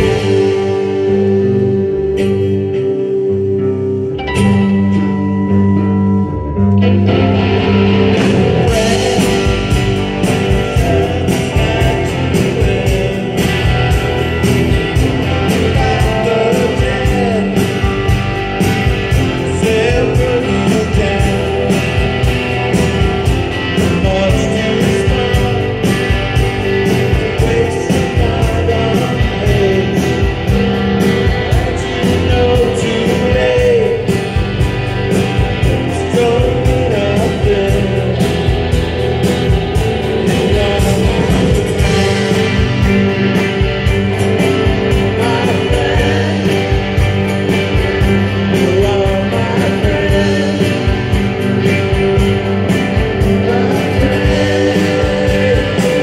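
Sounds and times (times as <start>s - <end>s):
electric guitars: 0.0s - 56.0s
live rock band playing: 0.0s - 56.0s.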